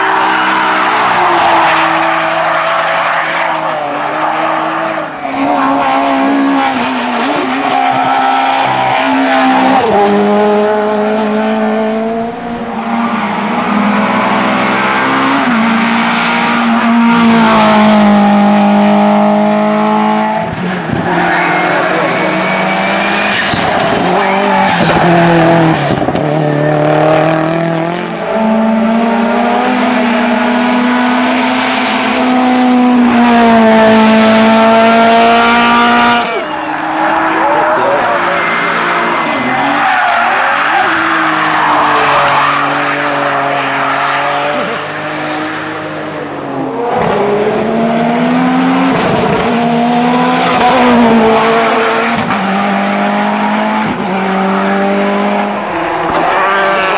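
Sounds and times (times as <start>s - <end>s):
race car engines revving: 0.0s - 56.9s.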